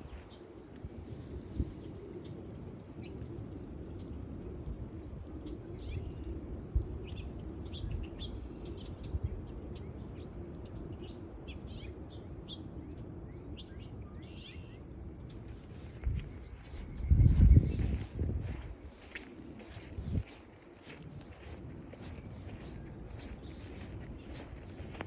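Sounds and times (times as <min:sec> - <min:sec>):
low background noise: 0:00.0 - 0:25.0
songbirds chirping: 0:00.0 - 0:25.0.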